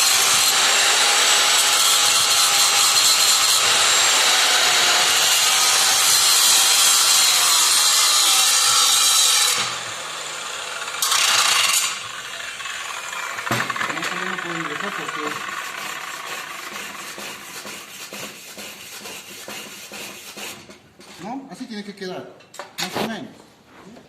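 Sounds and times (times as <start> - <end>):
angle grinder grinding metal: 0.0 - 20.7.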